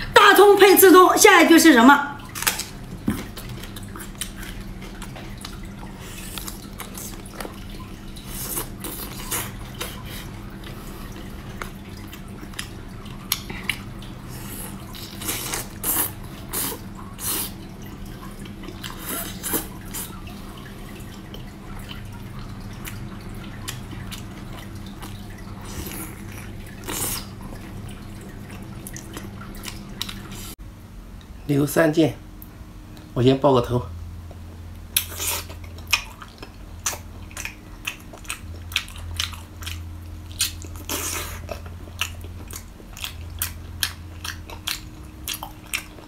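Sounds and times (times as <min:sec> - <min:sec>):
person eating wetly: 0:02.2 - 0:30.6, 0:34.3 - 0:46.0.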